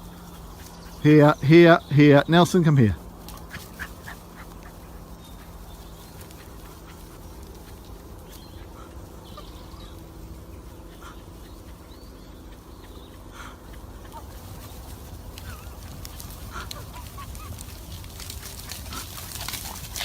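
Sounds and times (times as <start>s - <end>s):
animal calls: 0.0s - 20.0s
low hum: 0.0s - 20.0s.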